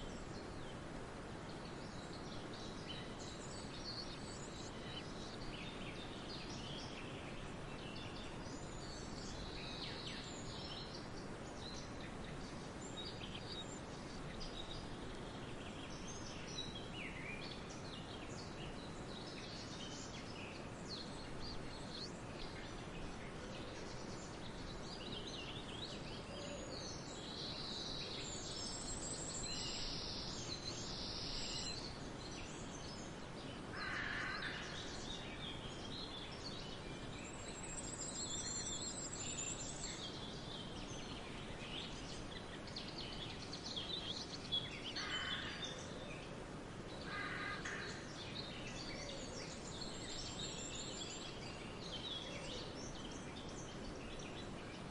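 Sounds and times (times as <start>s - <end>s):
steady background hiss: 0.0s - 54.9s
birds chirping and trilling: 1.4s - 54.9s.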